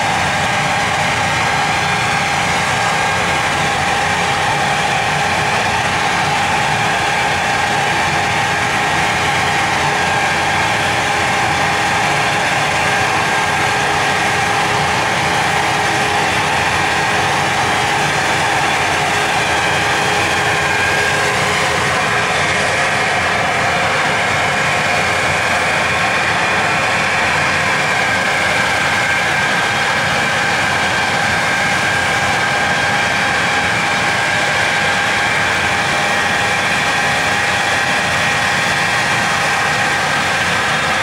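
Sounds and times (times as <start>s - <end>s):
machine running loudly: 0.0s - 41.0s.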